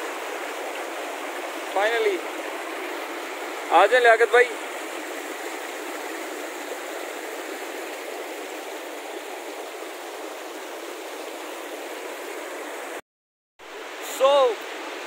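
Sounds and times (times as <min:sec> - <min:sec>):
stream water rushing: 0:00.0 - 0:13.0, 0:13.6 - 0:15.0.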